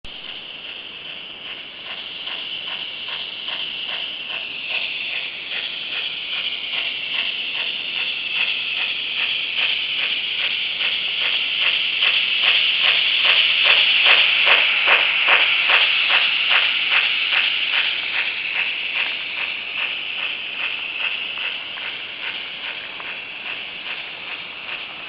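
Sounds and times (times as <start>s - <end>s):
steady steam hiss: 0.1s - 25.0s
steam locomotive chuffs: 0.1s - 25.0s.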